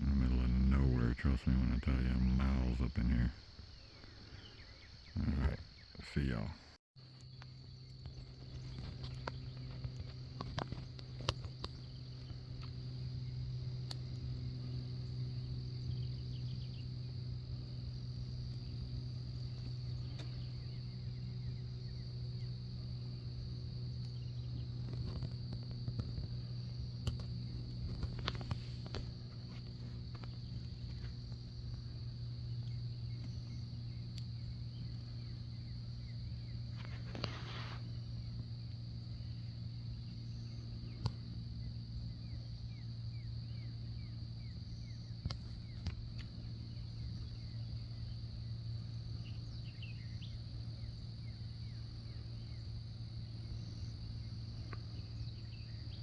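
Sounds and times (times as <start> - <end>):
low hum: 0.0 - 56.0
high-pitched insect trill: 0.1 - 56.0.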